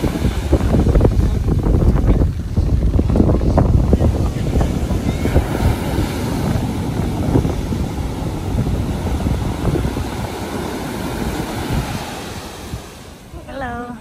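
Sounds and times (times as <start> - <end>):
ocean waves breaking: 0.0 - 14.0
wind rumbling on microphone: 0.0 - 14.0.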